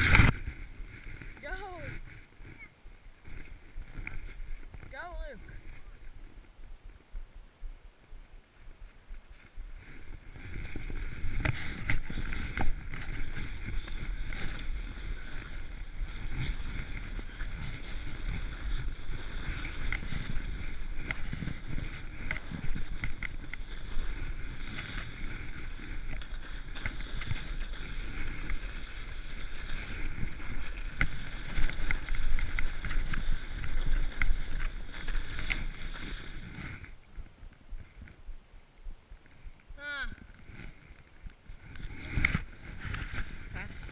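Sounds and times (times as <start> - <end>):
sled scraping over snow: 0.0 - 7.1, 8.5 - 38.3, 39.2 - 43.9.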